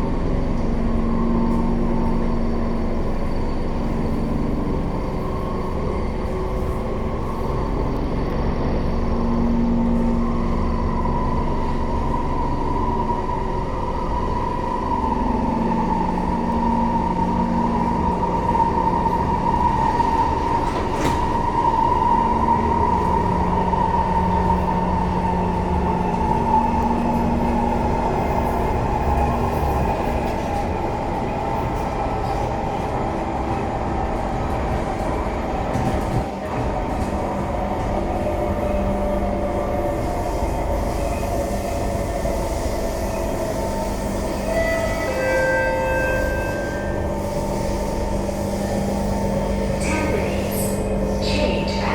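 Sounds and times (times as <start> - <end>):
train wheels rumbling on track: 0.0 - 51.9.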